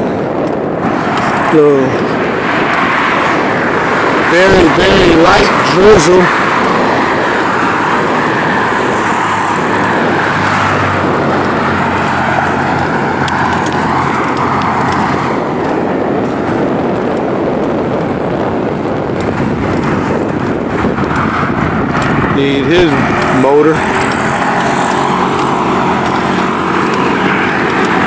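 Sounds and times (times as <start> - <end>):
cars going by: 0.0 - 28.0
engine hum: 0.0 - 28.0.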